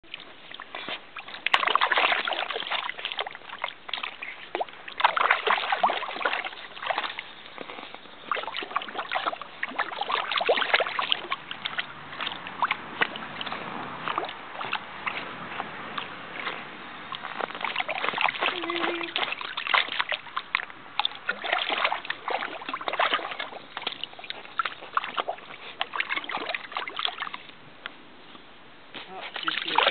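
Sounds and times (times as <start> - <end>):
dog splashing in shallow water: 0.0 - 27.7, 29.0 - 29.9.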